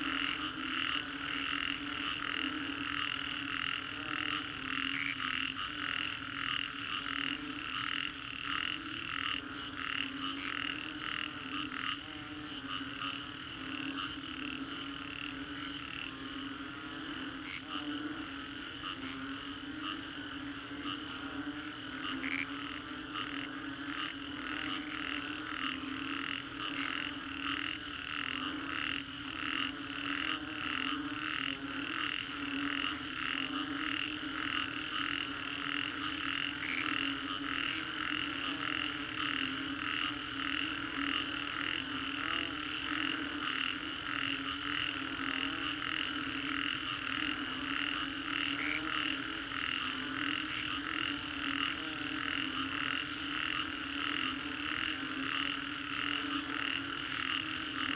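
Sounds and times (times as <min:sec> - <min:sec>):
chorus of frogs calling: 0:00.0 - 0:57.9.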